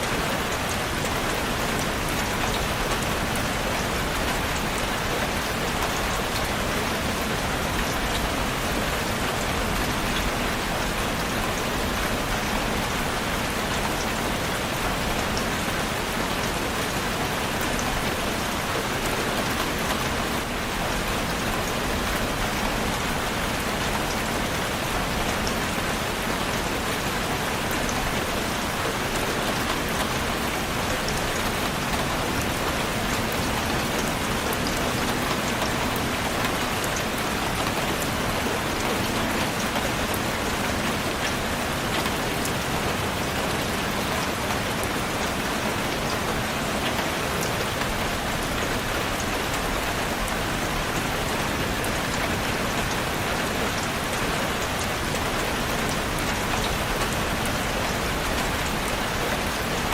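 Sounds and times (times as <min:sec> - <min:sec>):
rain hissing on a surface: 0:00.0 - 0:59.9.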